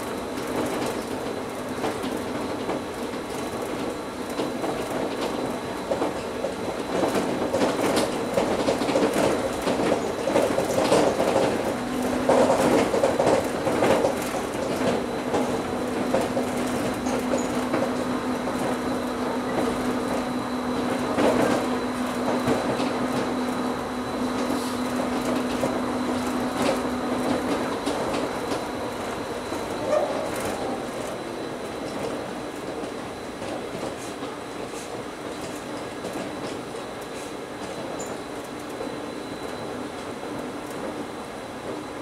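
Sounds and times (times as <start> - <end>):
metro car running rumble: 0.0 - 42.0
train rolling noise: 0.0 - 42.0.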